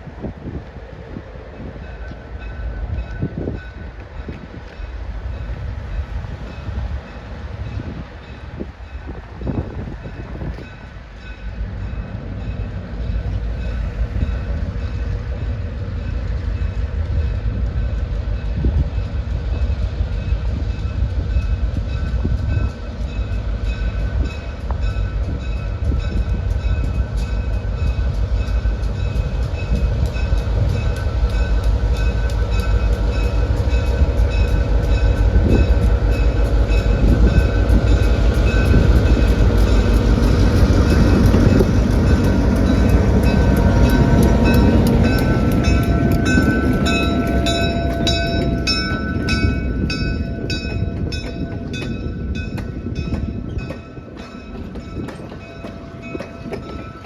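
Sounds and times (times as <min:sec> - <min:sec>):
rail vehicle rumble: 0:00.0 - 0:57.0.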